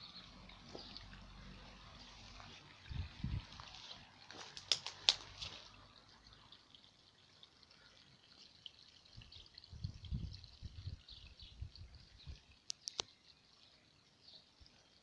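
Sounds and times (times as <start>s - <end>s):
stream trickling and dripping: 0.0s - 15.0s.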